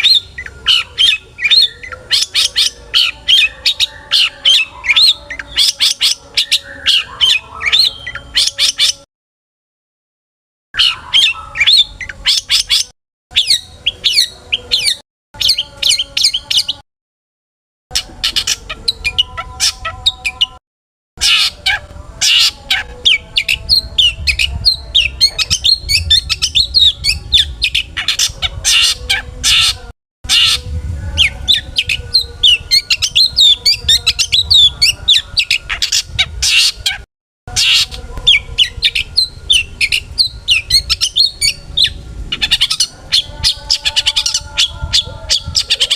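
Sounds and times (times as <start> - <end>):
bird singing chirps and squawks: 0.0 - 9.1, 10.8 - 16.8, 17.9 - 20.6, 21.2 - 45.9.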